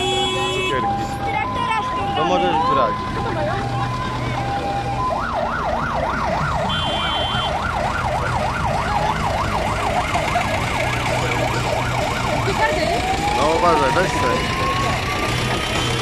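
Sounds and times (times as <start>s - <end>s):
siren yelping: 0.4s - 16.0s.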